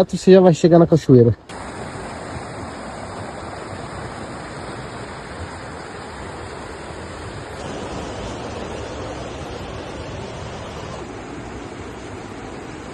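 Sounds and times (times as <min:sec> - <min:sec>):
waterfall rushing: 0:01.4 - 0:12.9.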